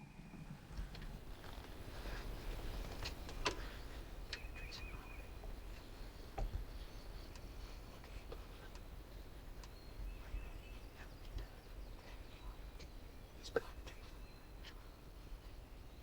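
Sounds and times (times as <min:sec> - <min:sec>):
small bird chirping: 0:01.3 - 0:16.0.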